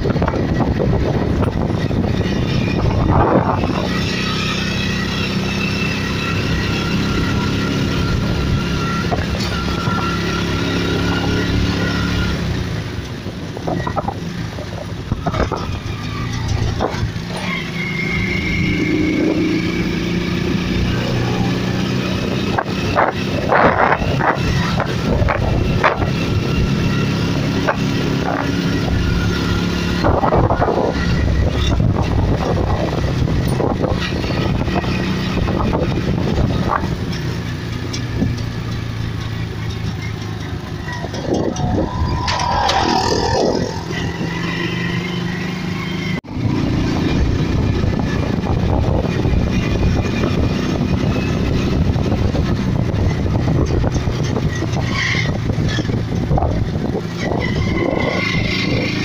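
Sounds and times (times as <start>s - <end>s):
train wheels on rails rumble: 0.0s - 59.0s.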